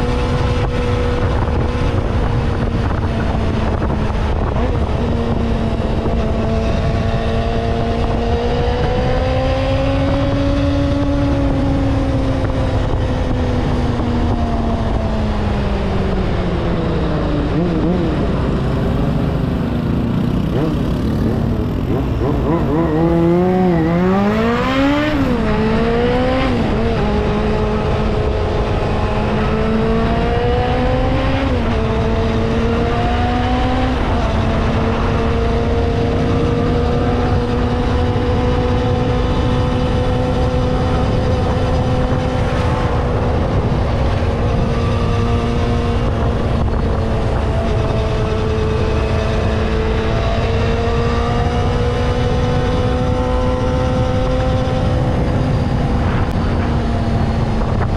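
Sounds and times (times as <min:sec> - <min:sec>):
vehicle engine accelerating: 0:00.0 - 0:57.9
wind and road noise: 0:00.0 - 0:57.9.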